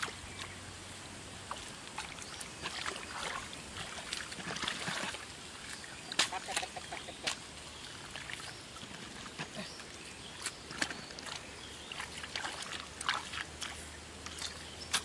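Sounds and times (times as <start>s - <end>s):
water splashes: 0.0s - 15.0s
wet mud squelching: 0.0s - 15.0s
hands digging in wet mud: 1.5s - 15.0s.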